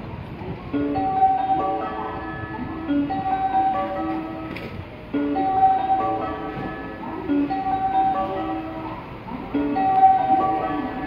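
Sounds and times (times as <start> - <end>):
train approach melody: 0.0 - 11.0.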